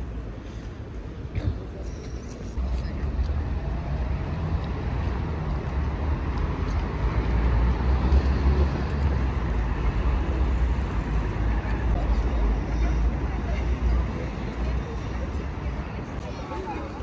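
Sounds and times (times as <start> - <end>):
city street traffic rumble: 0.0 - 17.0.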